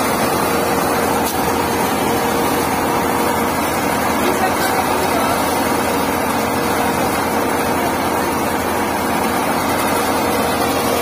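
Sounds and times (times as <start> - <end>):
thresher machine drone: 0.0 - 11.0.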